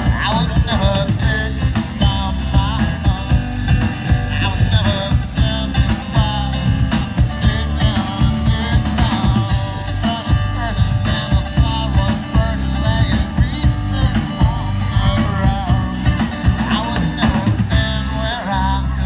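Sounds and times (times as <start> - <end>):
acoustic guitar: 0.0 - 19.0
drum kit beat: 0.0 - 19.0
electric guitars: 0.0 - 19.0.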